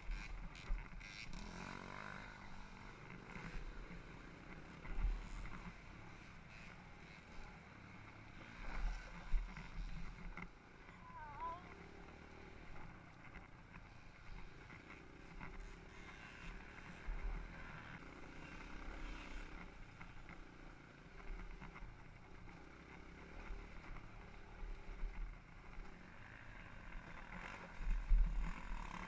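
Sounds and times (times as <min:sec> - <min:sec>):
dirt bike engine running: 0:00.0 - 0:29.0.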